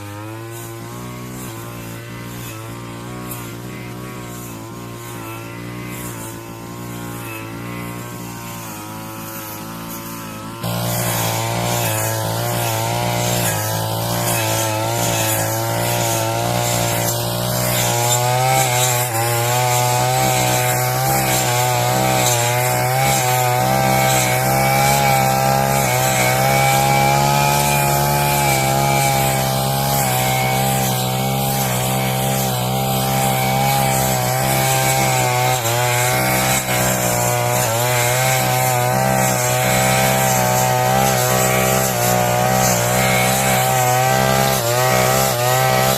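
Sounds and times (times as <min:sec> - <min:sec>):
brush cutter cutting grass: 0:00.0 - 0:45.9.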